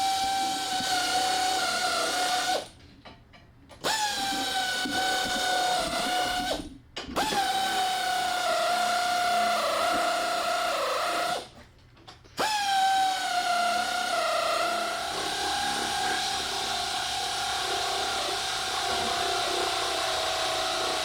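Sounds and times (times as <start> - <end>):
power drill driving screws: 0.0 - 2.7, 3.8 - 11.6, 12.4 - 21.0.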